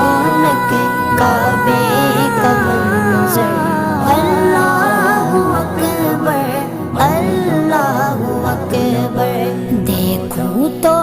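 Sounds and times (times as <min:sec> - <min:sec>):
devotional song with instruments: 0:00.0 - 0:11.0.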